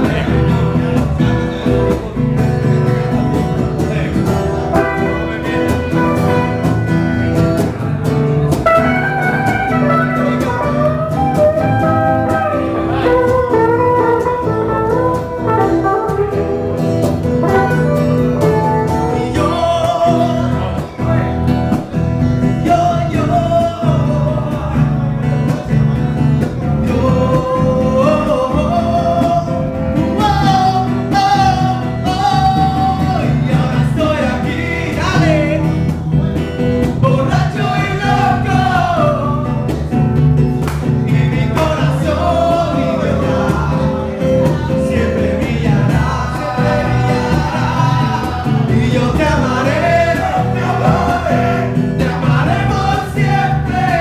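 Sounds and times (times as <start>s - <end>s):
latin guitar music: 0.0s - 54.0s.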